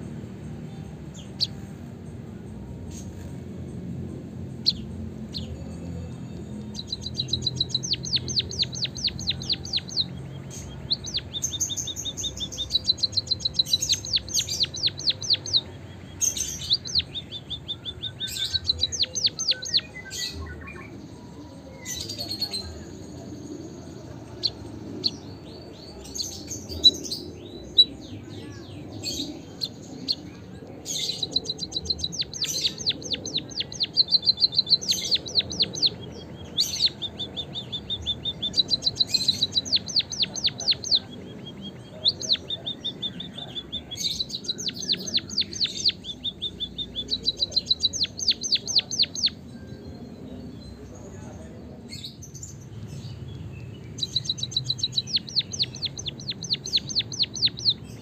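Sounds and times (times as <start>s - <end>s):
bird singing rapid high trills: 0.0s - 58.0s.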